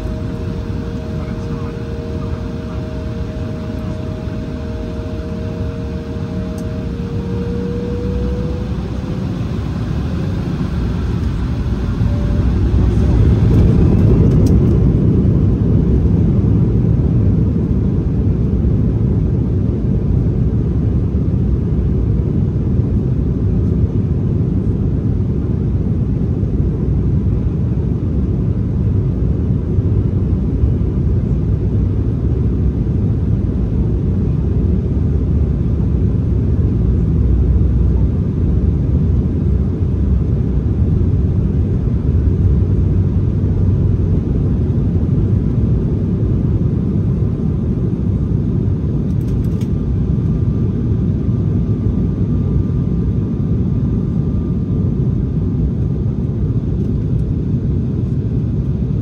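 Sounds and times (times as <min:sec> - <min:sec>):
jet cabin rumble while taxiing: 0:00.0 - 0:59.0.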